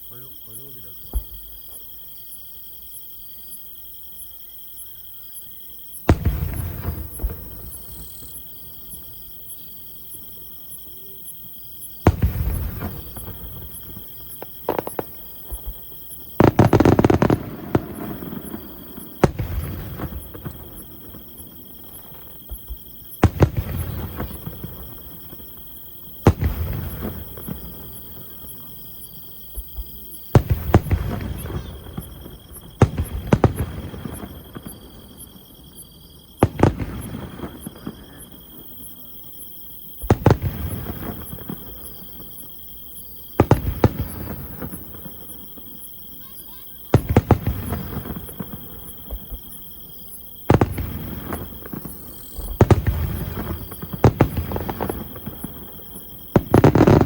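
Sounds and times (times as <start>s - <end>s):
insects chirping: 0.0s - 57.0s
fireworks booming and crackling: 0.6s - 2.0s, 5.9s - 57.0s.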